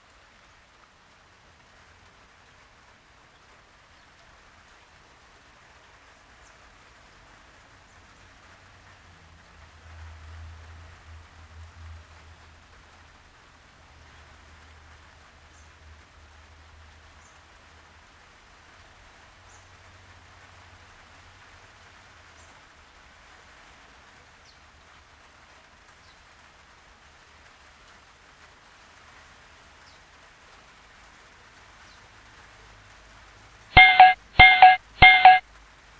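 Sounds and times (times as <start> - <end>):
faint steady hiss: 0.0 - 35.9.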